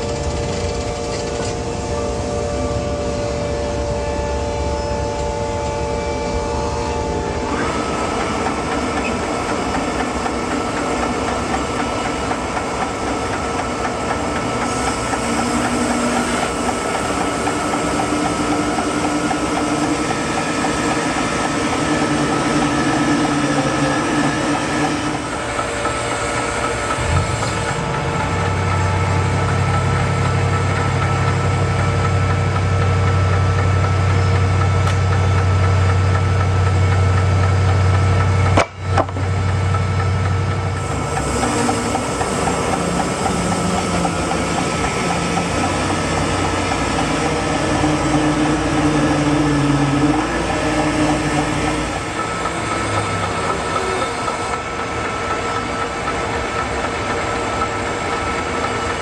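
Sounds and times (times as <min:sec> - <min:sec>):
saw whining: 0:00.0 - 0:34.5, 0:39.7 - 0:59.0
sawmill engine drone: 0:00.0 - 0:59.0.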